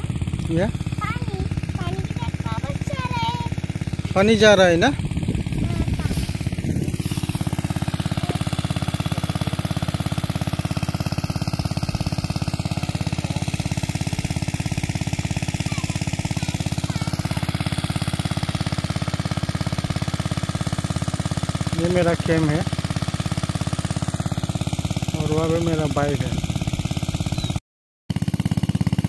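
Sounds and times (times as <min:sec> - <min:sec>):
engine-driven water pump running: 0:00.0 - 0:29.0.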